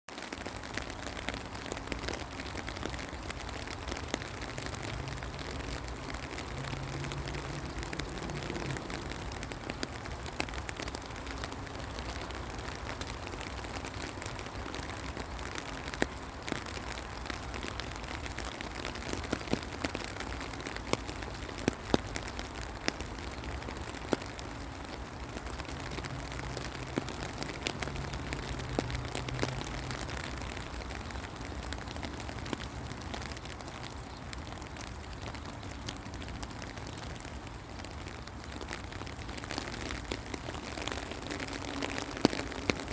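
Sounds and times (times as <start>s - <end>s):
raindrops striking sharply: 0.1s - 42.9s
steady rain falling: 0.1s - 42.9s.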